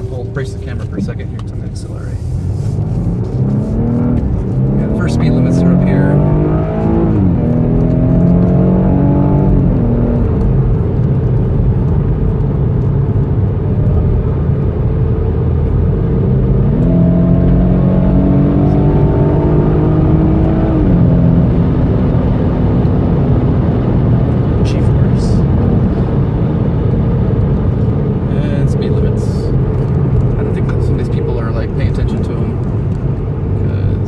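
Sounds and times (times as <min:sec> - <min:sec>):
car engine accelerating: 0:00.0 - 0:34.0
road and wind noise: 0:00.0 - 0:34.0.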